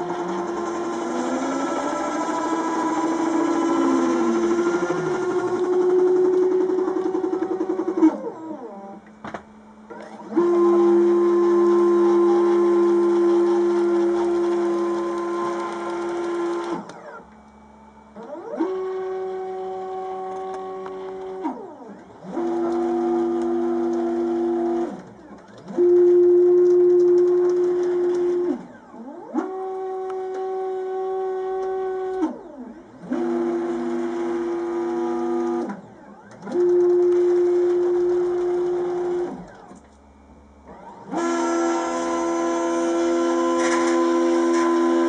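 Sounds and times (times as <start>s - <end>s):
stepper motors whining: 0.0s - 45.0s.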